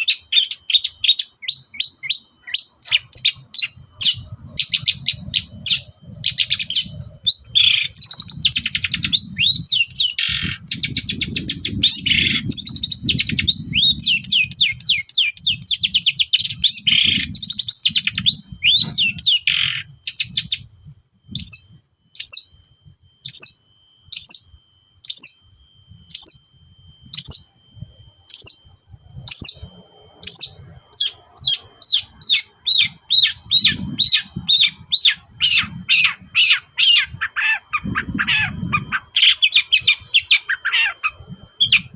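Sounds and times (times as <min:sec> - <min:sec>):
bird singing chattering trills: 0:00.0 - 0:41.9.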